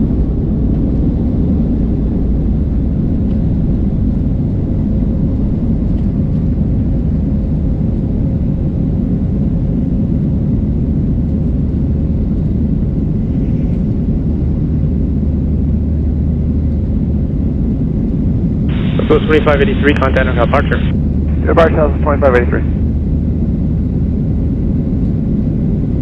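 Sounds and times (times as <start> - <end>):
faint constant hum: 0.0 - 26.0
jet engines rumbling in cabin: 0.0 - 26.0.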